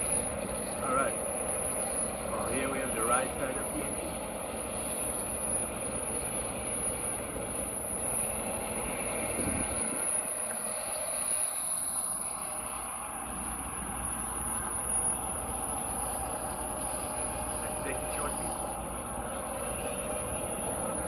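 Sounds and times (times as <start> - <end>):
high steady whine: 0.0 - 21.0
machinery drone: 0.0 - 21.0.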